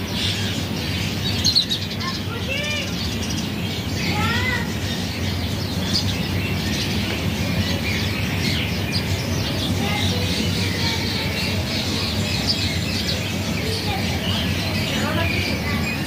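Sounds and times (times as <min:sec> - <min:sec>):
birds chirping and squawking: 0:00.0 - 0:16.0
steady low hum: 0:00.0 - 0:16.0.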